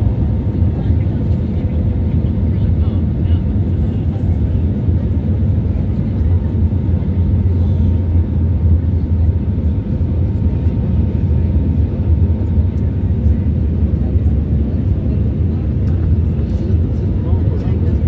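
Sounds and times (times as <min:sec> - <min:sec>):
aircraft engine rumble in cabin: 0:00.0 - 0:18.0.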